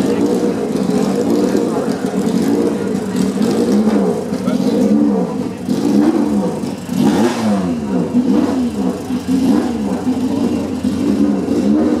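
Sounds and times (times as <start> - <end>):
racing car engine revving: 0.0 - 12.0.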